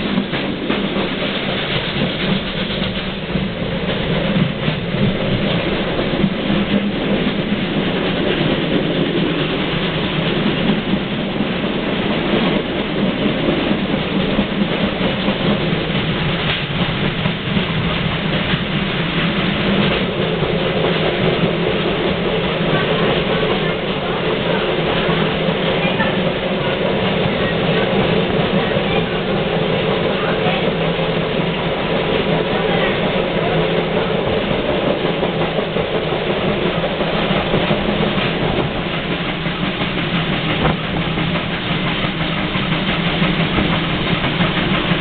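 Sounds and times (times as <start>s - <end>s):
train rumbling and rattling: 0.0s - 45.0s.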